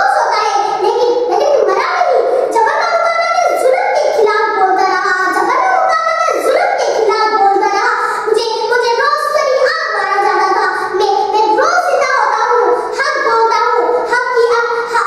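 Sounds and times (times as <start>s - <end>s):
girl chanting a verse: 0.0s - 15.0s.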